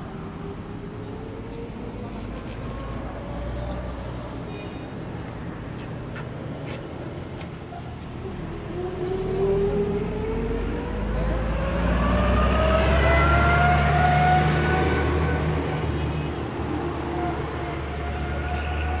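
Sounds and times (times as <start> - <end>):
engine whine: 0.0 - 19.0
traffic rumble: 0.0 - 19.0.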